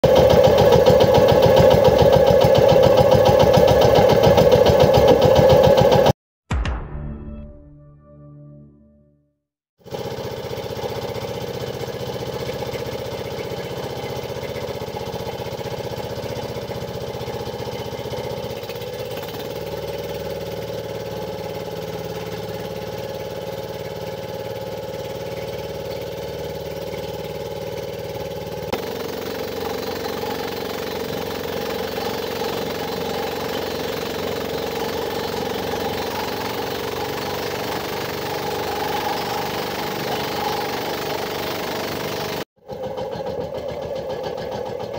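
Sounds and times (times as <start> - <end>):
boat engine running: 0.0 - 6.1, 9.8 - 44.9.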